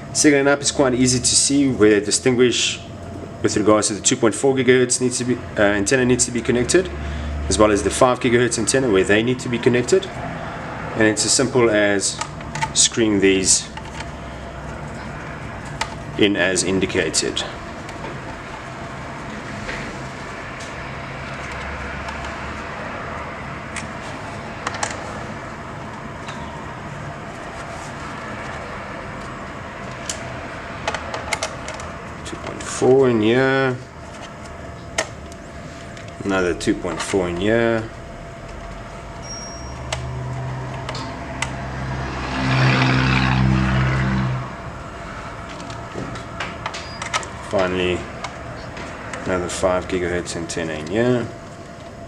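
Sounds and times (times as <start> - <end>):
low engine-like drone: 0.0 - 52.0
steady background noise: 0.0 - 52.0.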